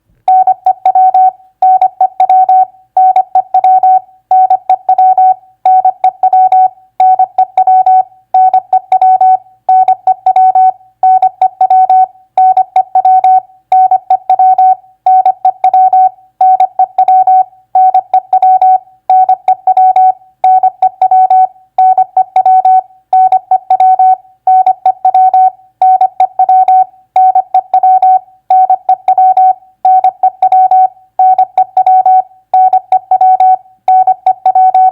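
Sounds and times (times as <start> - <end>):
morse code tone: 0.3 - 34.9.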